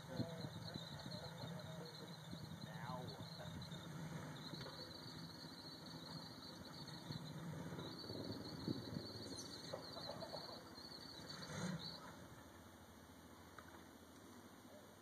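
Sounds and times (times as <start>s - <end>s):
faint truck engine at low revs: 0.0s - 15.0s.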